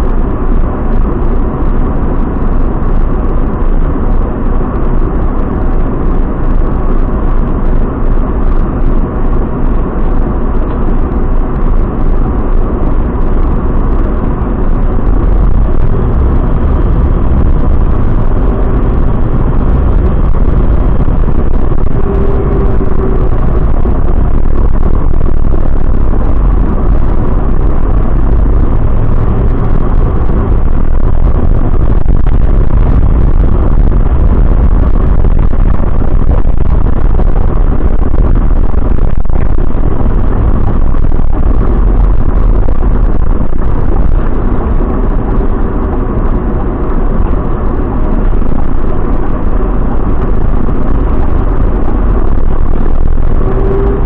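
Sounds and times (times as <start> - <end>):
coach engine and road rumble: 0.0 - 54.0.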